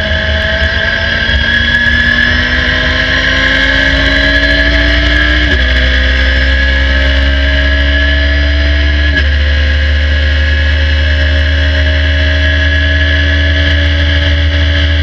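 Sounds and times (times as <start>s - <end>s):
car engine revving at full throttle: 0.0s - 15.0s.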